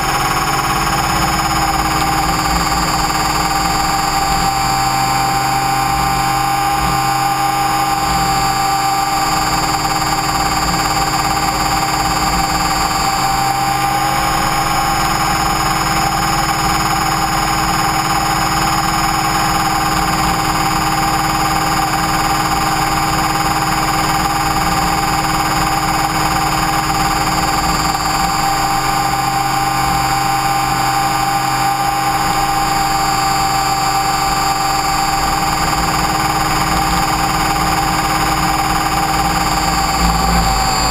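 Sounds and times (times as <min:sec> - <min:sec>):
rc helicopter motor whine: 0:00.0 - 0:40.9
rotor hum: 0:00.0 - 0:40.9.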